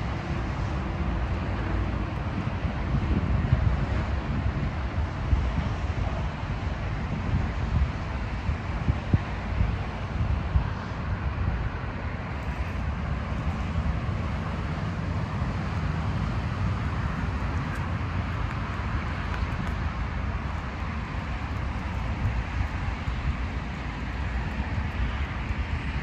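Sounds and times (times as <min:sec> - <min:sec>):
motorway traffic noise: 0:00.0 - 0:26.0
wind buffeting microphone: 0:00.0 - 0:26.0.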